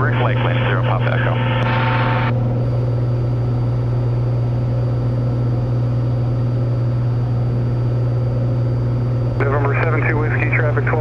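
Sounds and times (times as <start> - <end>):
light aircraft engine droning: 0.0 - 11.0.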